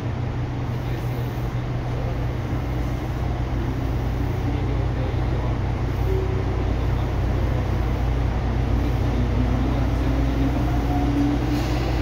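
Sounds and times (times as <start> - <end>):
train interior hum and rumble: 0.0 - 12.0.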